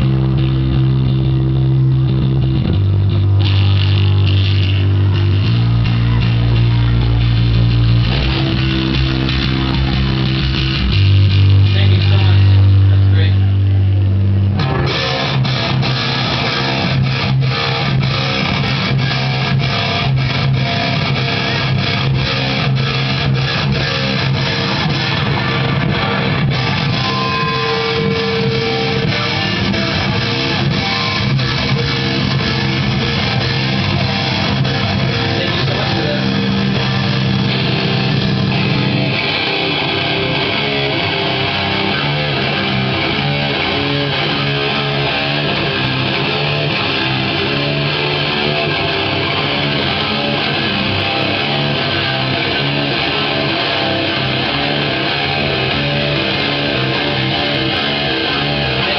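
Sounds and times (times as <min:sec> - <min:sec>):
bass guitar: 0:00.0 - 0:58.9
electric guitars: 0:00.0 - 0:58.9.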